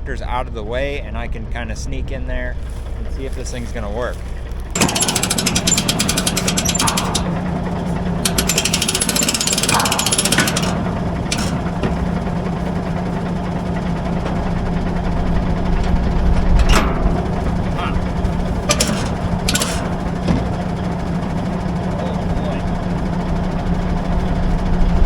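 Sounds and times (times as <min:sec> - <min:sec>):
diesel engine running: 0:00.0 - 0:25.0
fast metallic rattling: 0:04.7 - 0:25.0.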